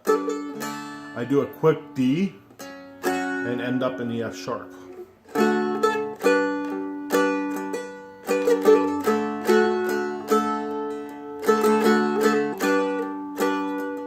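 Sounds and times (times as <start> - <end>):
dulcimer strummed: 0.0 - 14.0.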